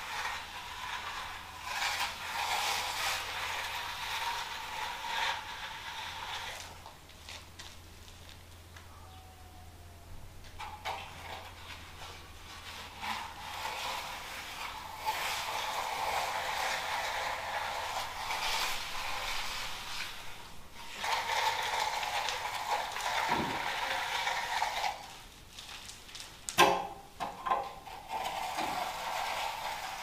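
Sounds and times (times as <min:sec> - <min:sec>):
float scraping wet concrete: 0:00.0 - 0:08.5, 0:10.5 - 0:30.0.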